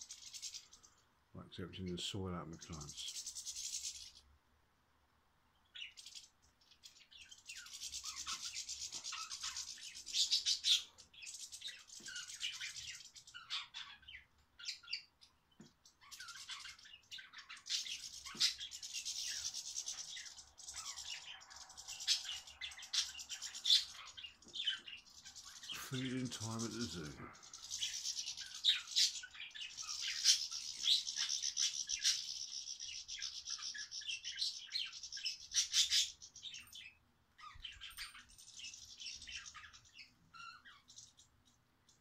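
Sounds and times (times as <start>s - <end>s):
budgerigars chattering: 6.9s - 41.4s.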